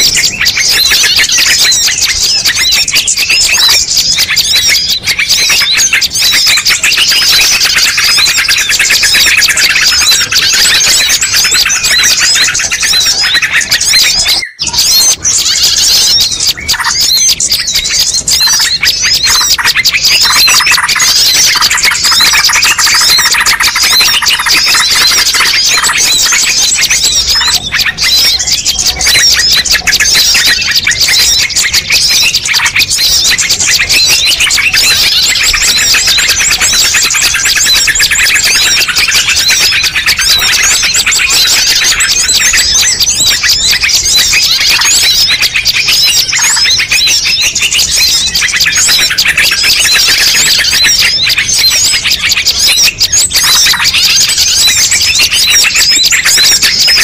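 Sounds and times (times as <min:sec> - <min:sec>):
chorus of small birds chirping: 0:00.0 - 0:57.0.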